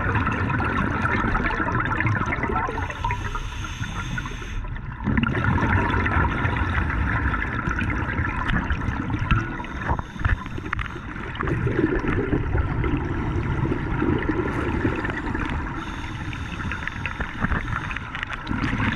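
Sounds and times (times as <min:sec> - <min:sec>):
underwater rushing and gurgling water: 0:00.0 - 0:18.9.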